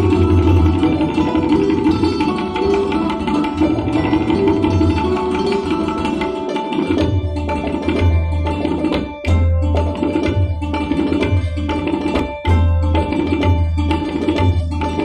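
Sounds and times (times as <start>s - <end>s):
santoor strings ringing: 0.0s - 15.0s
tabla playing: 0.0s - 15.0s.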